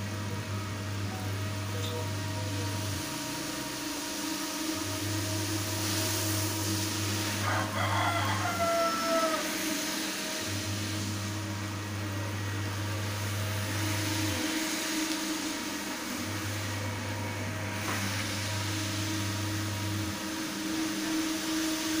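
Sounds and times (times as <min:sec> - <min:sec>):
deep background drone: 0:00.0 - 0:22.0
floor scrubber brush on carpet: 0:03.6 - 0:22.0.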